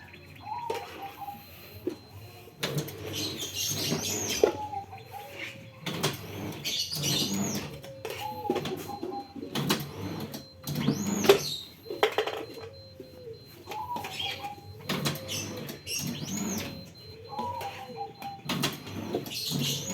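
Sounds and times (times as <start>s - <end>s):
machine squeaks and whines: 0.0s - 19.9s.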